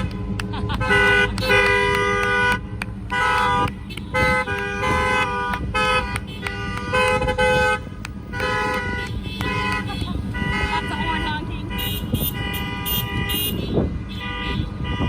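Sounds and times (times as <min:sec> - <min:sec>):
car horns honking: 0:00.0 - 0:15.0.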